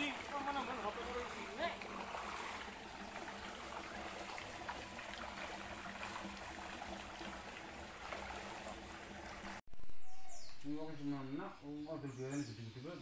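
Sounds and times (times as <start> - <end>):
water trickling into pond: 0.0 - 11.4.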